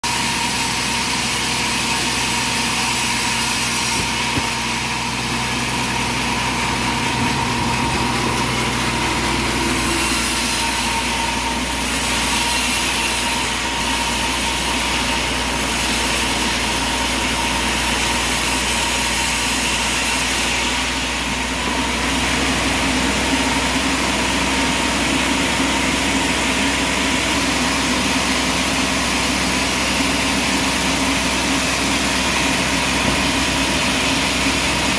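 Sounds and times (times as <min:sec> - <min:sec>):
sawmill machinery humming: 0:00.0 - 0:34.9.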